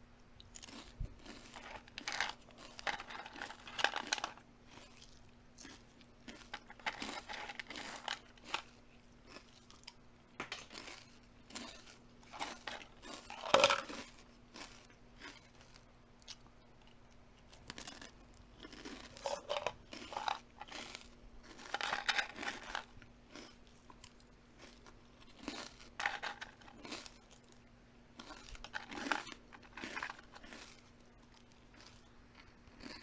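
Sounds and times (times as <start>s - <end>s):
faint steady hum: 0.0s - 33.0s
crunching and chewing food: 0.1s - 33.0s.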